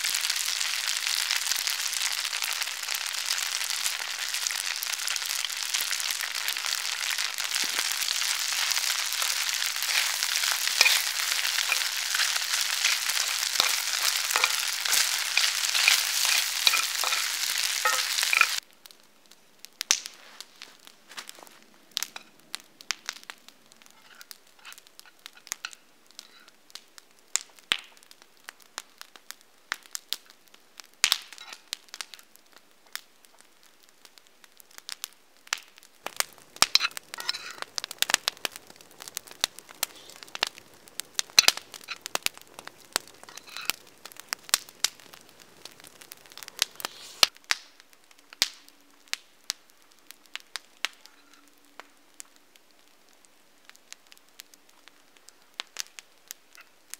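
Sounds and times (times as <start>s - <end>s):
sharp fire pops: 0.0s - 56.7s
campfire crackling: 0.0s - 56.9s.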